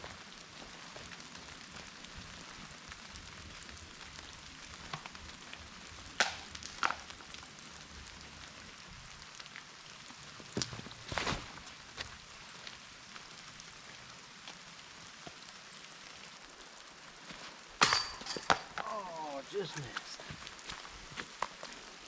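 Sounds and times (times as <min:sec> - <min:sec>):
rain pattering in woodland: 0:00.0 - 0:17.8, 0:18.4 - 0:22.0.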